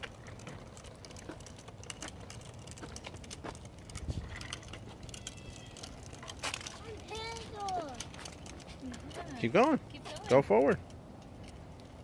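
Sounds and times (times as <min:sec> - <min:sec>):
bicycle rolling on sidewalk: 0:00.0 - 0:12.0.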